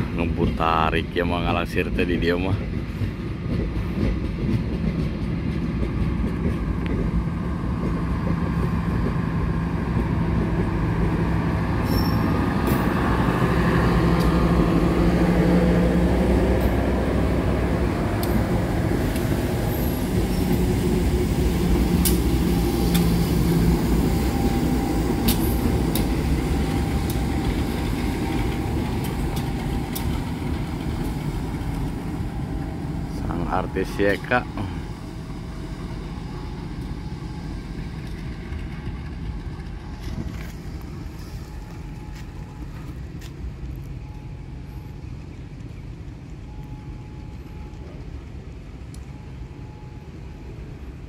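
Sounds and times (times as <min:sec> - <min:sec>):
diesel locomotive engine droning: 0:00.0 - 0:51.0.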